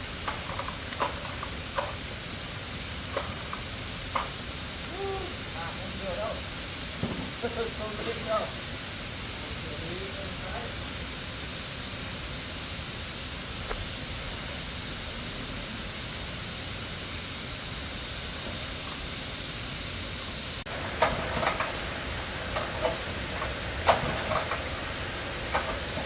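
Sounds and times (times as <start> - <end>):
steady hissing: 0.0 - 26.0.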